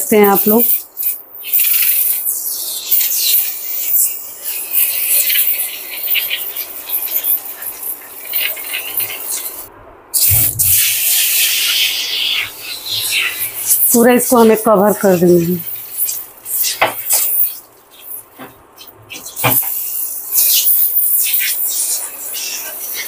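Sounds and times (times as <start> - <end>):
aerosol can spraying foam: 0.2 - 9.6, 10.2 - 18.5, 19.2 - 23.0.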